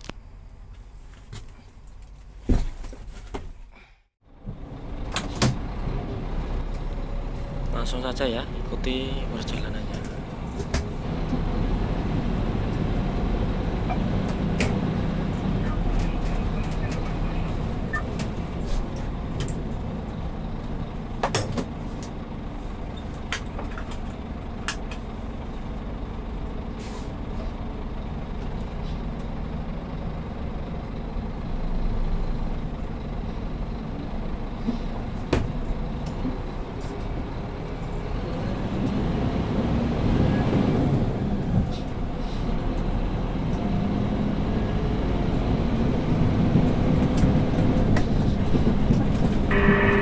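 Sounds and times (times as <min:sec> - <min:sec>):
diesel truck engine running: 0:04.2 - 0:50.0.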